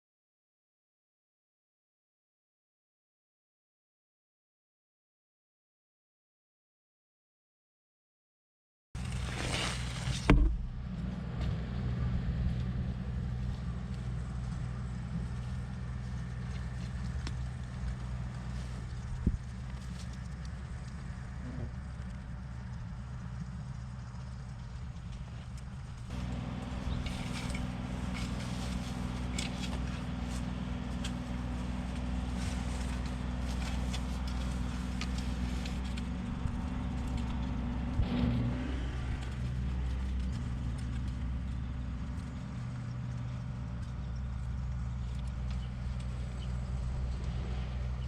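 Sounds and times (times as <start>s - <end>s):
engine running: 9.0s - 48.0s.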